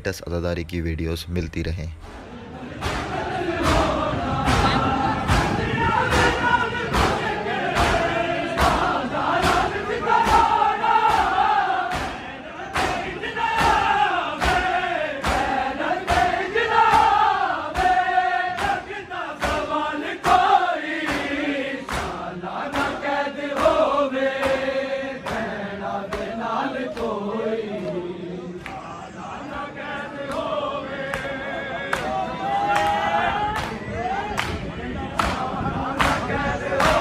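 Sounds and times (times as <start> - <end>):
men chanting in unison: 2.2 - 37.0
rhythmic chest-beating slaps: 2.2 - 37.0.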